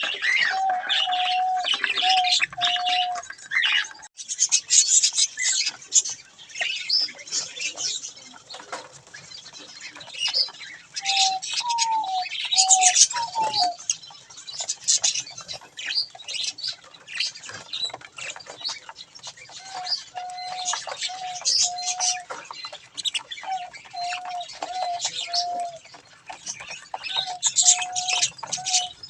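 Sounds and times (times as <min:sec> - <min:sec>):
budgerigars chattering and chirping: 0:00.0 - 0:29.0.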